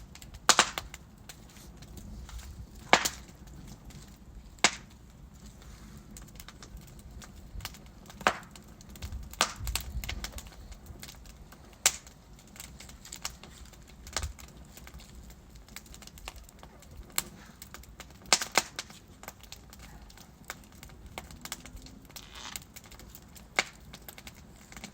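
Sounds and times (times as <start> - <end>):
fire rumbling: 0.0 - 24.9
wood crackling and popping: 0.0 - 24.9.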